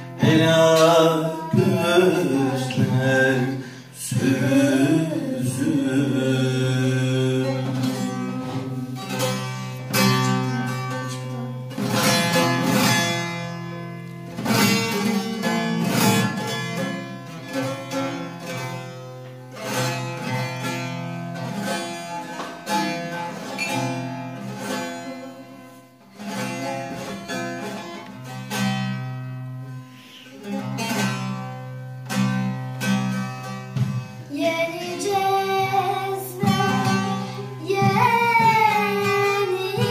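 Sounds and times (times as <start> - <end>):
long-necked lute plucked and strummed: 0.0 - 39.9.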